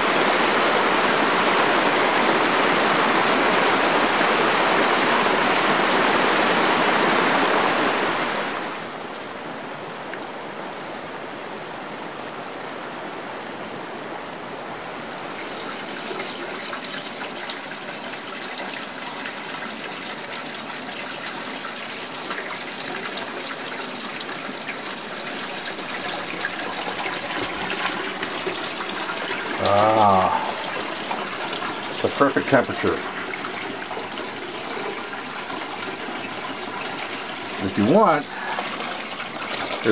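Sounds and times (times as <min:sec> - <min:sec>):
water pouring into a bathtub: 0:00.0 - 0:08.8, 0:15.3 - 0:39.9
water rushing: 0:00.0 - 0:39.9.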